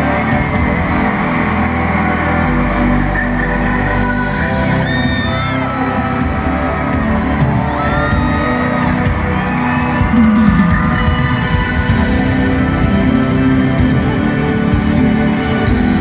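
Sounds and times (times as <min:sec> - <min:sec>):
crowd shouting: 0:00.0 - 0:16.0
heavy bass beat: 0:00.0 - 0:16.0
live pop music with singing: 0:00.0 - 0:16.0.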